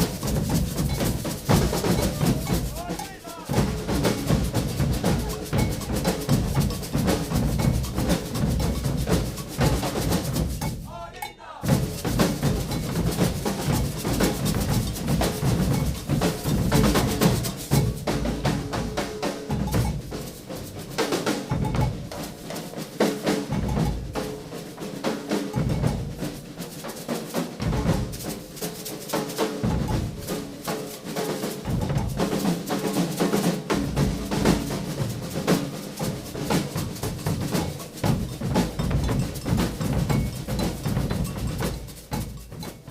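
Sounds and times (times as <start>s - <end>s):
bass drums: 0.0s - 22.5s, 23.4s - 24.4s, 27.6s - 28.5s, 31.6s - 32.8s, 33.6s - 42.9s
snare drums: 0.0s - 42.9s.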